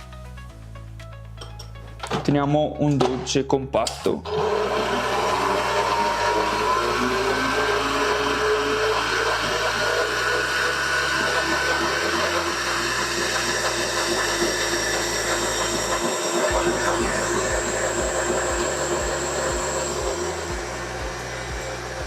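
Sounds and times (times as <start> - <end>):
stand mixer motor running: 4.3 - 22.0.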